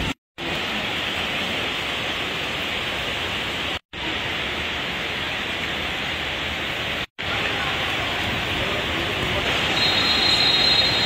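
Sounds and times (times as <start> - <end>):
hiss of heavy rain: 0.0 - 11.0.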